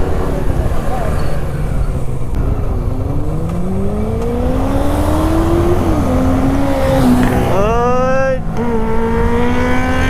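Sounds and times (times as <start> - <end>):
motorcycle engine accelerating: 0.0 - 10.0
wind and road rumble: 0.0 - 10.0.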